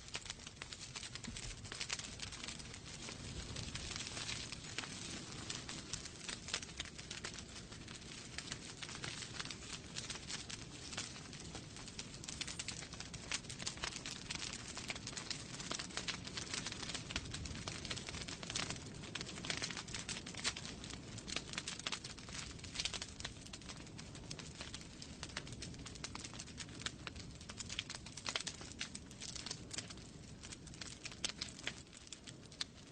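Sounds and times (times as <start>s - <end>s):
fire crackling and snapping: 0.0s - 32.9s
low rumble of flames: 0.0s - 32.9s.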